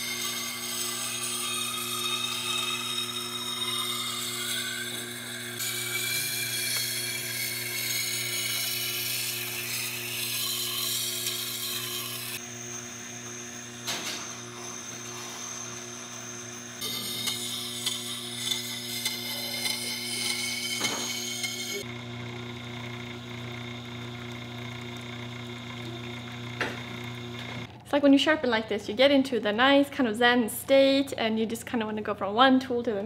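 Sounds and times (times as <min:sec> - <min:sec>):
grinder motor hum: 0:00.0 - 0:31.1.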